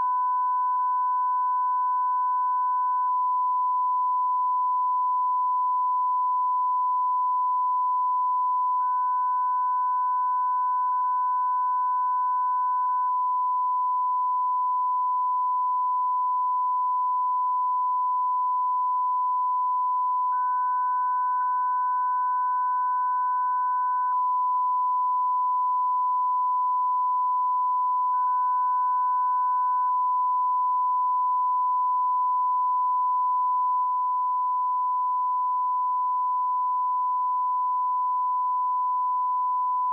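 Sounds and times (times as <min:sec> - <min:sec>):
faint higher tone: 0:00.0 - 0:39.9.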